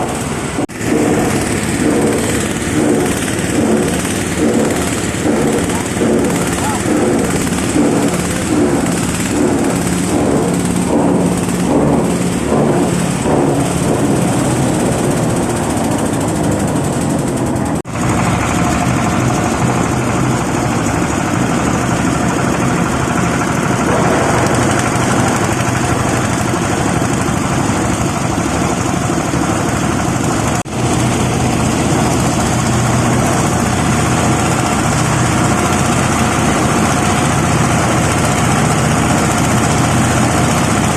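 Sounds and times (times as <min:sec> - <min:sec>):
crusher machine droning: 0:00.0 - 0:40.9.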